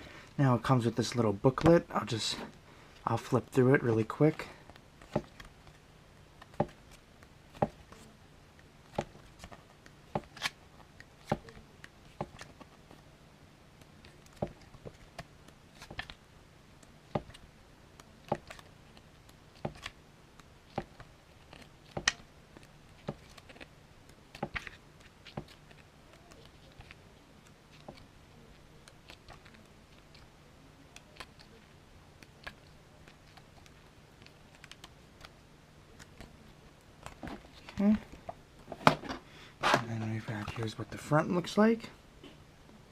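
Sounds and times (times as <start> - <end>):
booklet pages flipping: 4.0 - 13.1, 13.8 - 16.2, 16.8 - 30.3, 30.9 - 40.8.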